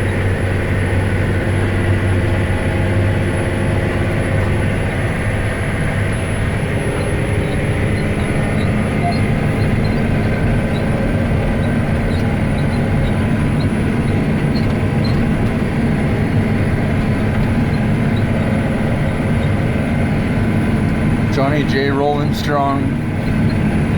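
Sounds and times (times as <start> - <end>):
tractor diesel engine under load: 0.0 - 23.9.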